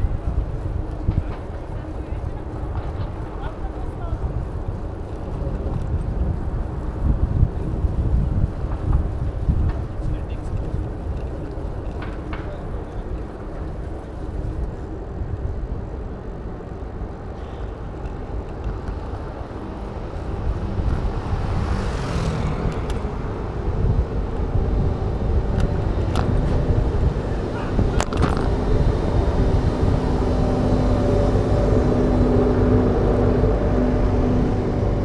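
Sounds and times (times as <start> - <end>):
street traffic noise: 0.0 - 35.0
wind rumbling on microphone: 0.0 - 35.0.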